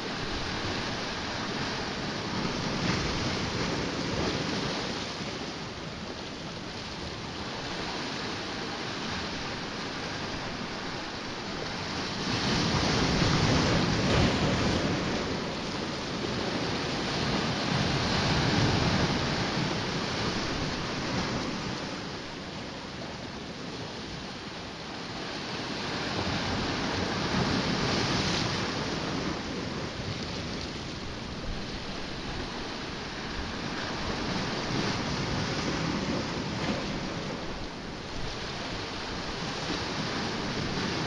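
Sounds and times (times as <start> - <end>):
waves washing against rocky shore: 0.0 - 41.0.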